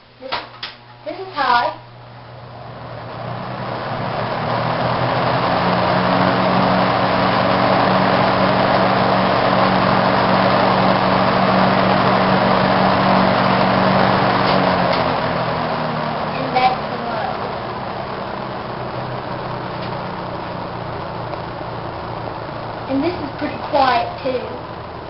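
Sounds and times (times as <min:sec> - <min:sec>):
box fan running: 0:00.0 - 0:25.0.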